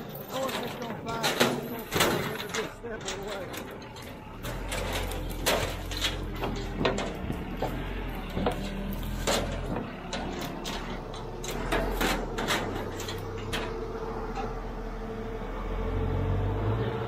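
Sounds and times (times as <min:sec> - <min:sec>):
metal plate clanking on chain: 0:00.0 - 0:14.5
diesel engine running: 0:00.0 - 0:17.0.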